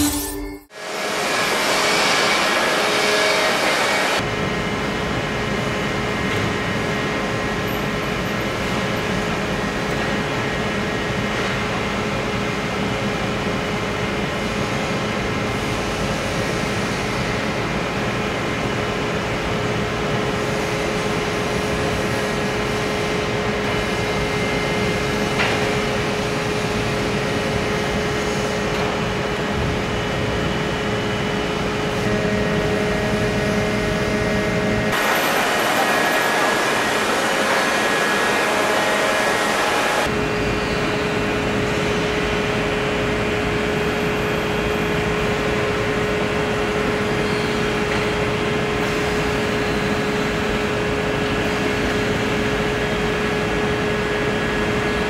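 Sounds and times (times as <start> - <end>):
machinery humming and whirring: 0.0 - 55.0.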